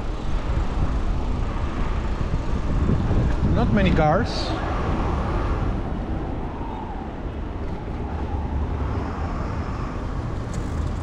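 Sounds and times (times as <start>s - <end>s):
low wind rumble on microphone: 0.0s - 11.0s.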